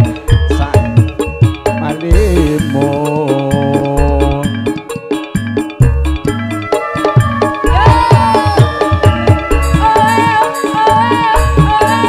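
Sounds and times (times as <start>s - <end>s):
live band music over sound system: 0.0s - 10.8s.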